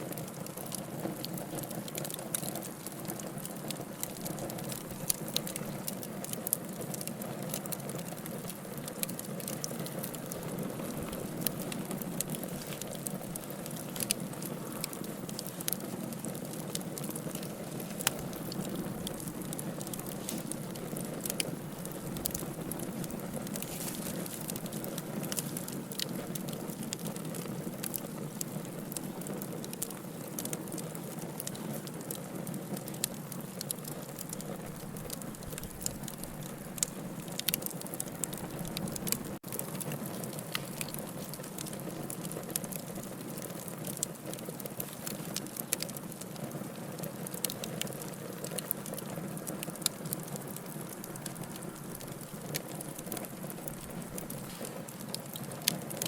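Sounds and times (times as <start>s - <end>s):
burning wood crackling and popping: 0.0s - 56.0s
rush of flames: 0.2s - 56.0s.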